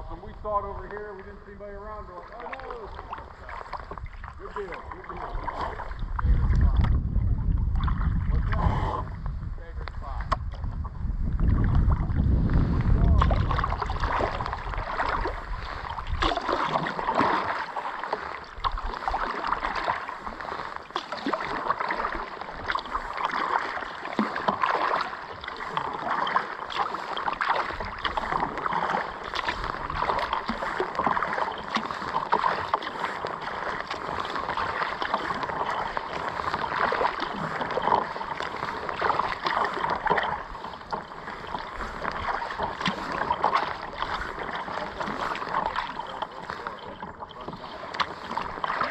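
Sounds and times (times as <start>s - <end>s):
wind on microphone: 0.0s - 47.6s
water splashing around kayak: 0.0s - 48.9s.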